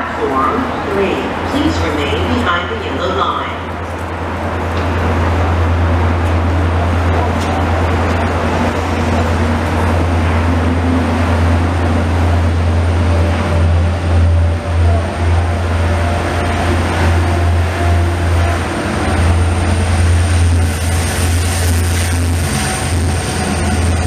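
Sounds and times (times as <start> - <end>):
diesel locomotive engine drone: 0.0 - 24.0
train coaches rolling: 0.0 - 24.0.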